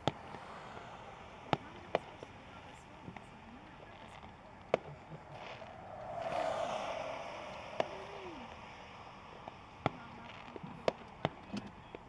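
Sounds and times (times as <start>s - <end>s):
vehicle passing: 0.0s - 10.5s
distant firework crack: 0.0s - 11.4s.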